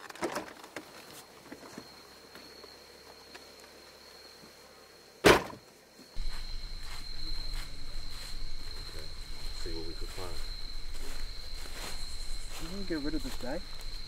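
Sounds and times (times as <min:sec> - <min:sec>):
insects chirring: 0:00.1 - 0:14.0.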